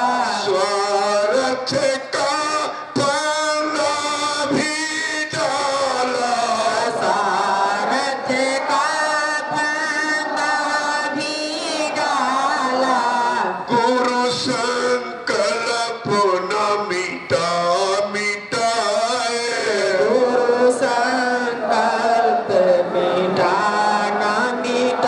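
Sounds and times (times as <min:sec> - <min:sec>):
chanting through loudspeakers: 0:00.0 - 0:25.0.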